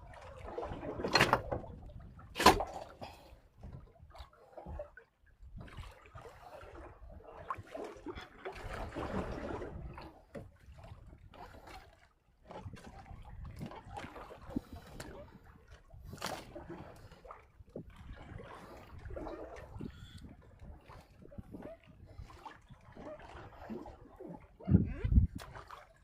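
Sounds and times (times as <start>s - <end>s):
water splashing around boat: 0.0s - 26.0s.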